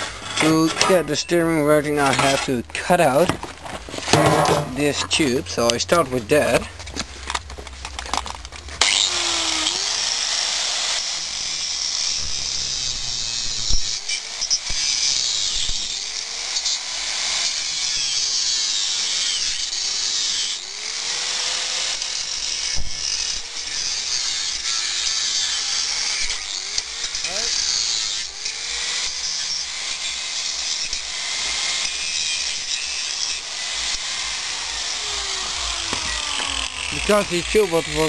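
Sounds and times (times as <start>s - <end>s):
angle grinder cutting steel: 0.0s - 38.0s.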